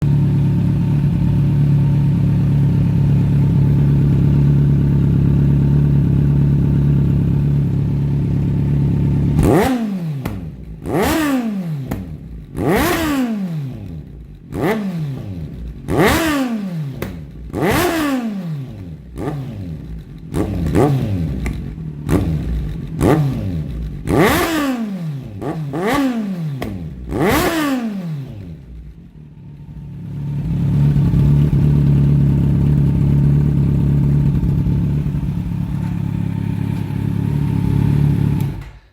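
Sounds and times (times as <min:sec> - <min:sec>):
motorcycle engine idling: 0:00.0 - 0:12.8, 0:13.7 - 0:16.2, 0:16.9 - 0:24.4, 0:28.2 - 0:38.8
motorcycle throttle blips: 0:00.0 - 0:38.9.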